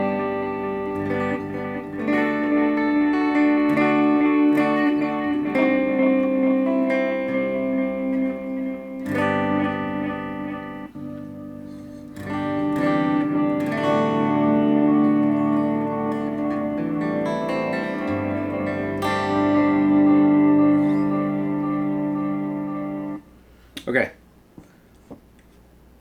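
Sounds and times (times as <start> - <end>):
electric guitar chords ringing: 0.0 - 23.3.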